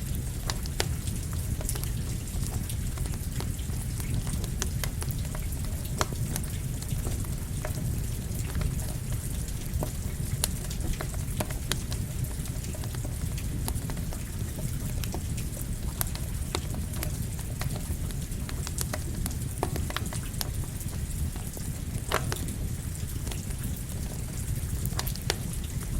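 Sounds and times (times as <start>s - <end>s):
crackling campfire: 0.0s - 25.9s
steady rain: 0.0s - 25.9s.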